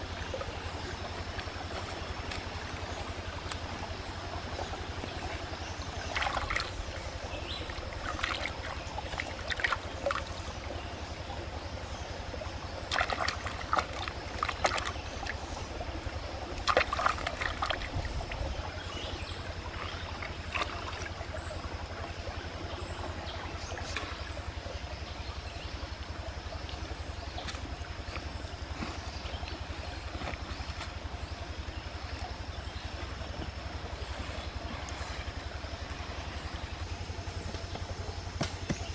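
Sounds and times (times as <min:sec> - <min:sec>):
water splashing and dripping: 0:00.0 - 0:10.8, 0:12.8 - 0:18.7, 0:19.4 - 0:22.0, 0:26.0 - 0:38.9
steady low hum: 0:00.0 - 0:38.9.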